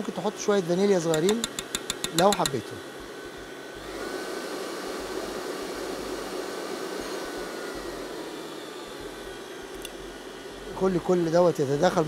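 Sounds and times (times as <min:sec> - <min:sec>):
electric stand mixer running: 0:00.0 - 0:12.0.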